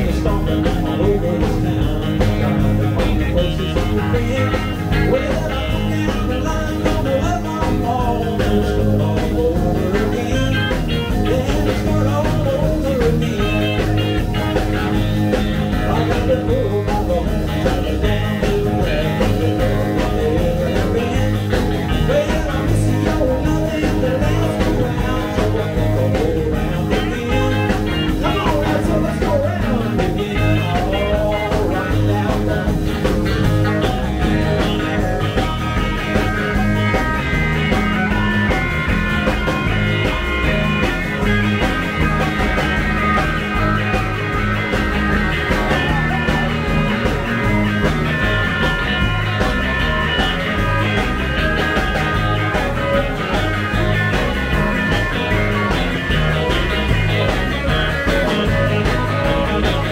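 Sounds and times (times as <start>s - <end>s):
electric guitar: 0.0s - 59.9s
live rock and roll band: 0.0s - 59.9s.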